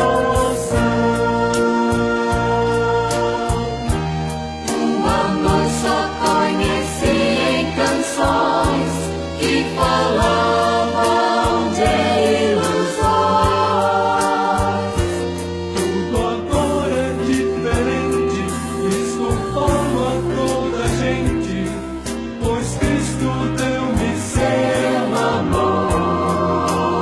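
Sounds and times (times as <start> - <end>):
voices singing together: 0.0 - 4.0, 4.6 - 27.0
band with bass and drums: 0.0 - 27.0.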